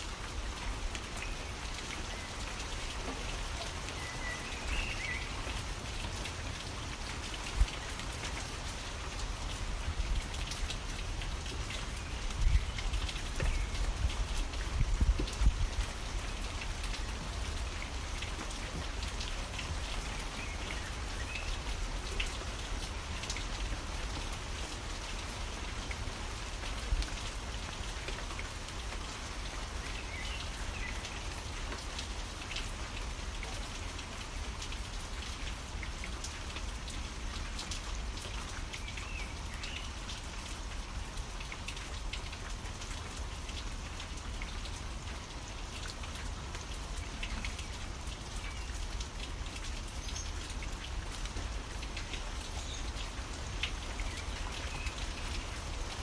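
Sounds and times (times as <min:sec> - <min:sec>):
rain drops ticking: 0:00.0 - 0:56.0.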